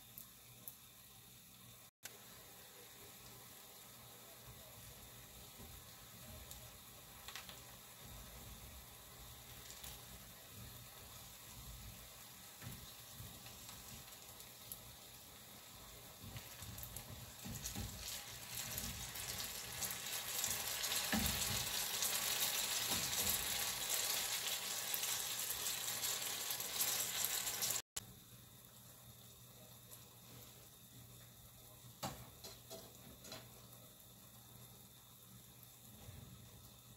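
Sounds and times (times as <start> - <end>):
food sizzling in hot oil: 0.0 - 36.9.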